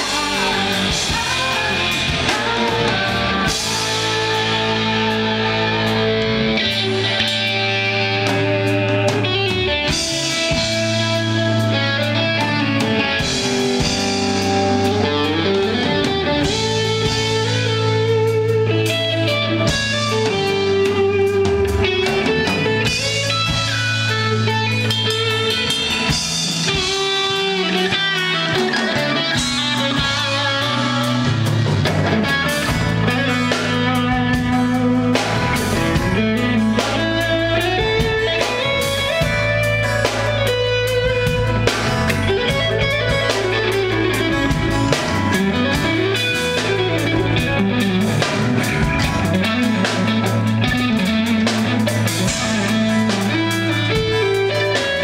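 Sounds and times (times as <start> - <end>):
drum kit: 0.0 - 55.0
electric bass: 0.0 - 55.0
electric guitar lead: 0.0 - 55.0.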